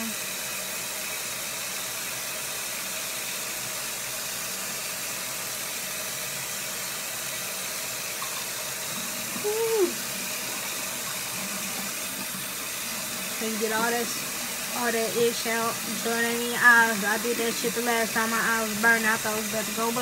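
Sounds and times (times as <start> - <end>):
sink tap running: 0.0 - 20.0.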